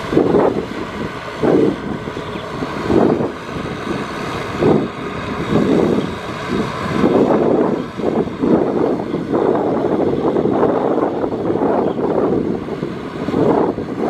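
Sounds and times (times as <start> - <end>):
rotary tiller churning mud: 0.0 - 14.0
tractor diesel engine under load: 0.0 - 14.0.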